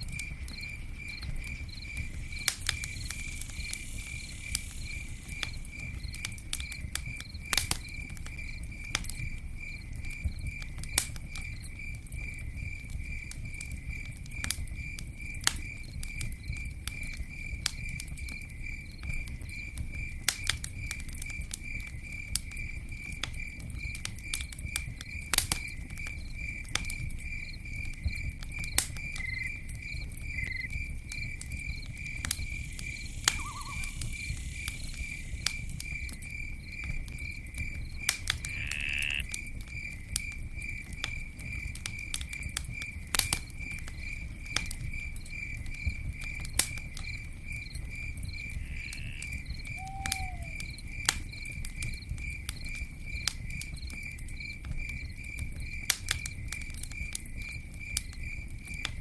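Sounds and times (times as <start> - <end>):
campfire crackling: 0.0 - 59.0
cricket chirping: 0.0 - 59.0.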